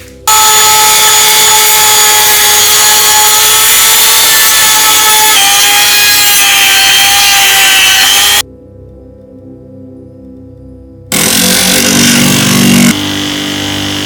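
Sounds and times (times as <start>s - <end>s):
power tool grinding: 0.0s - 8.4s, 11.1s - 14.0s.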